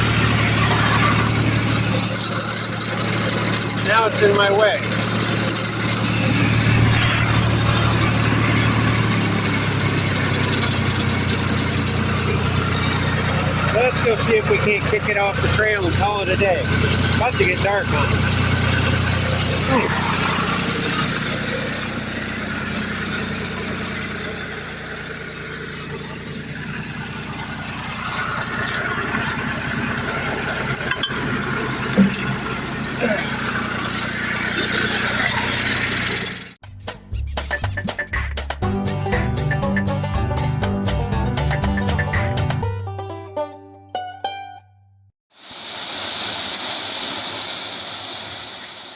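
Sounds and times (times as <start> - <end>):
tractor engine running: 0.0 - 36.6, 37.4 - 43.1.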